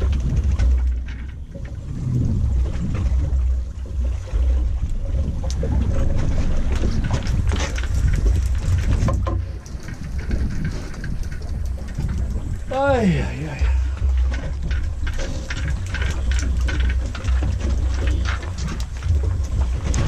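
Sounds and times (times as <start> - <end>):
boat engine low rumble: 0.0 - 20.0
water washing against hull: 0.0 - 20.0
wind buffeting microphone: 0.0 - 20.0.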